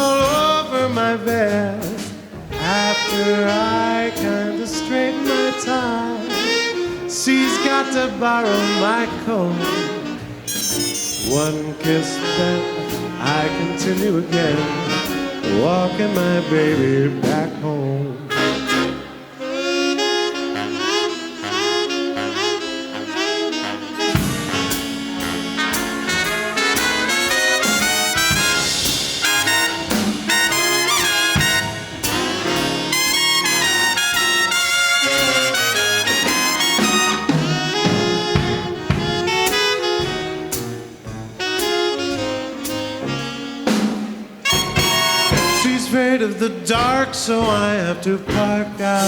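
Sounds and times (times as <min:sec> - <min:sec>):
big band swing music: 0:00.0 - 0:49.0.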